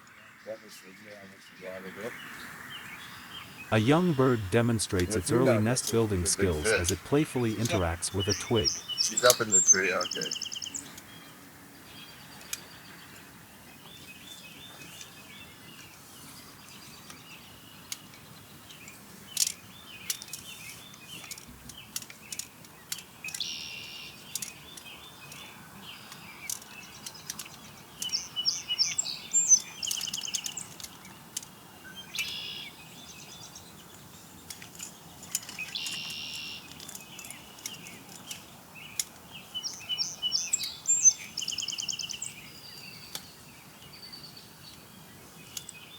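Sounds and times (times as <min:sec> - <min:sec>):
birds chirping: 0:00.0 - 0:45.9
faint outdoor background noise: 0:00.0 - 0:45.9.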